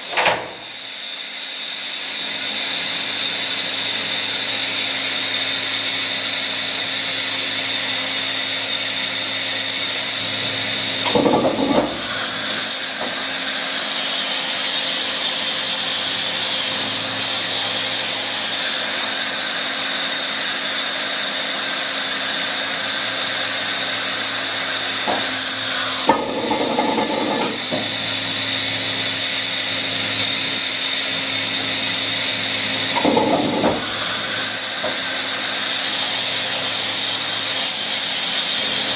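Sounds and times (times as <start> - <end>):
machine hum and whine: 0.0 - 38.9.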